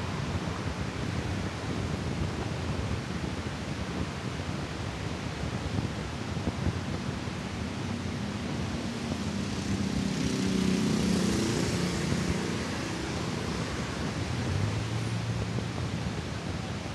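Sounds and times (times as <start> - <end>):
vehicle engine hum: 0.0 - 16.9
wind noise on microphone: 0.0 - 16.9.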